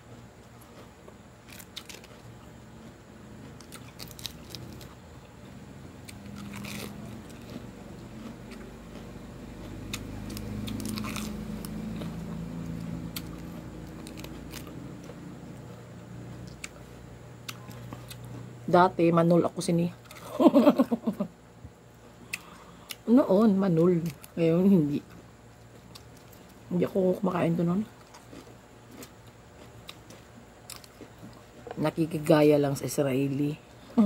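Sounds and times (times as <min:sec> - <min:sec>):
lettuce crunching and chewing: 0:00.0 - 0:18.6, 0:19.6 - 0:20.8, 0:22.2 - 0:31.8
low background hum: 0:00.0 - 0:34.0.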